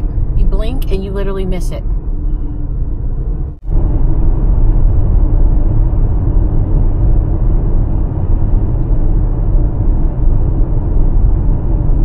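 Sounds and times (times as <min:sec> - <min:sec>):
car engine: 0:00.0 - 0:12.0
wind noise: 0:00.0 - 0:12.0.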